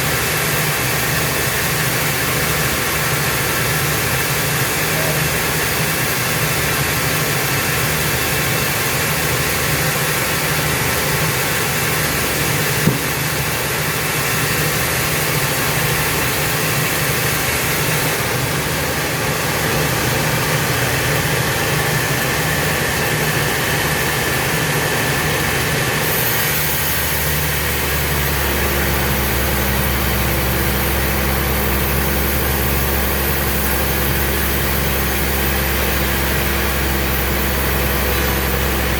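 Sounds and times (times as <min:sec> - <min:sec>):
deep steady hum: 0:00.0 - 0:26.3, 0:27.1 - 0:38.9
sawmill machinery running: 0:00.0 - 0:38.9.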